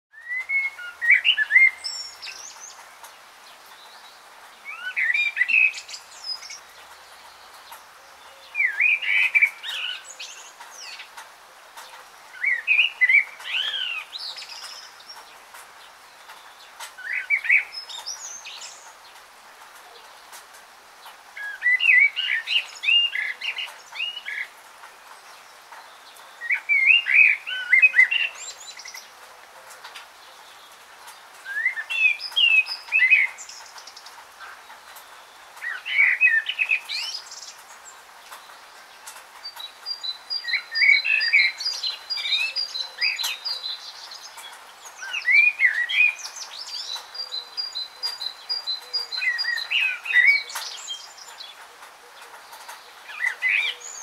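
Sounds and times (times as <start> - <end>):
bird singing: 0.1 - 20.4, 21.0 - 54.0
faint steady hiss: 0.1 - 54.0.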